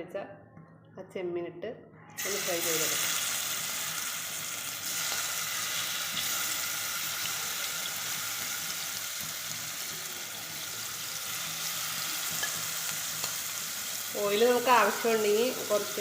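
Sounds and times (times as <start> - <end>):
prawns sizzling in hot oil: 2.2 - 16.0.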